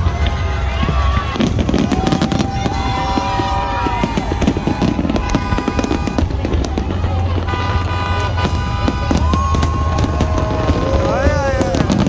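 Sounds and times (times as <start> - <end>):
fireworks crackling and banging: 0.0 - 12.0
music playing: 0.0 - 12.0.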